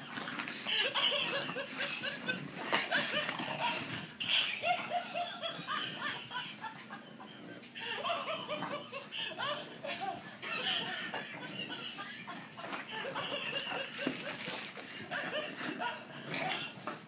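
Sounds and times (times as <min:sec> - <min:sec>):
toy dog recorded laugh: 0:00.0 - 0:17.0.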